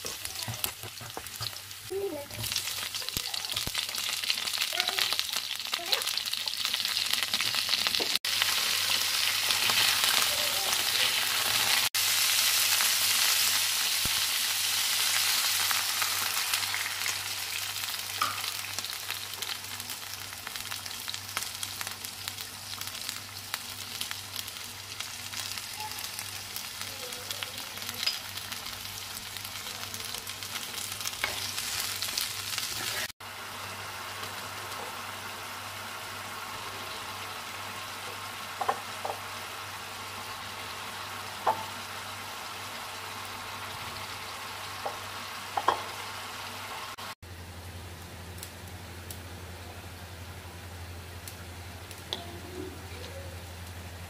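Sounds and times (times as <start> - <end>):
vegetables sizzling in frying pan: 0.0 - 54.0.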